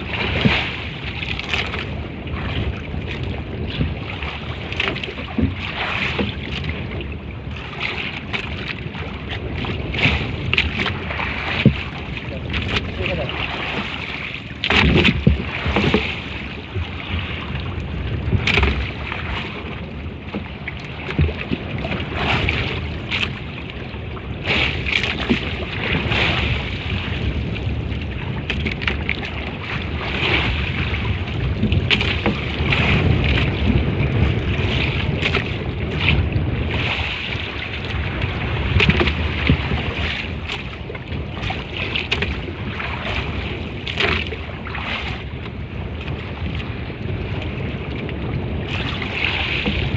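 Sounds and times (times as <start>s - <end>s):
water splashing against boat: 0.0s - 49.9s
wind buffeting microphone: 0.0s - 49.9s.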